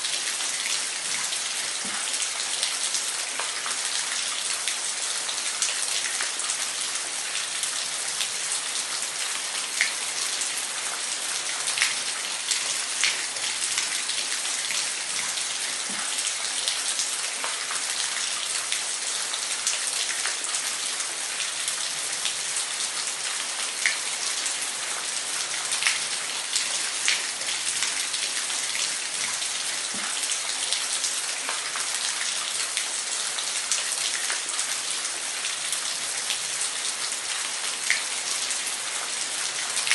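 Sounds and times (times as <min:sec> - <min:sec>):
water splashes and drips: 0:00.0 - 0:39.9.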